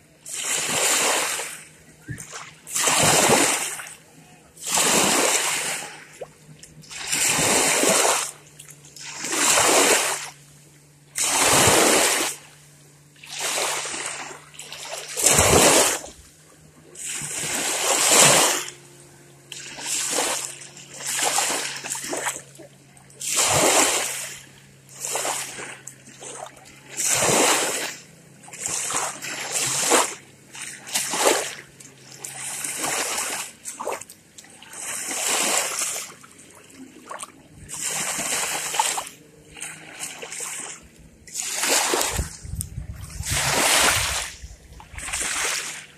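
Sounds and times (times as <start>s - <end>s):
waves lapping on shore: 0.0s - 45.9s.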